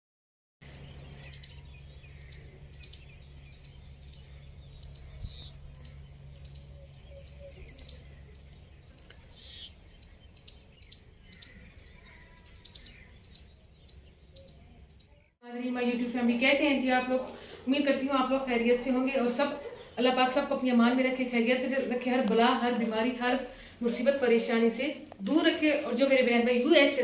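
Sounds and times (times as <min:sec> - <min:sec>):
low steady hum: 0:00.6 - 0:27.0
small birds chirping: 0:00.6 - 0:27.0.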